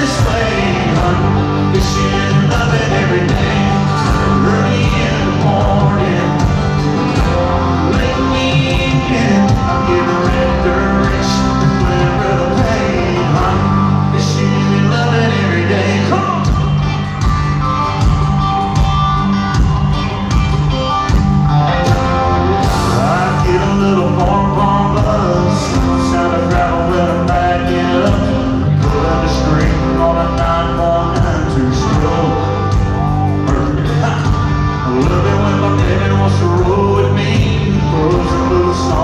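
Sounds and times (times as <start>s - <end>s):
lead singer singing: 0.0s - 17.7s, 21.6s - 39.0s
live country band: 0.0s - 39.0s.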